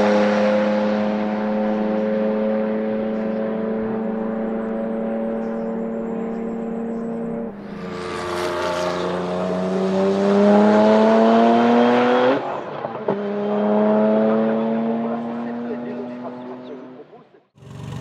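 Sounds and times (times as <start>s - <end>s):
racing engine accelerating: 0.0s - 18.0s.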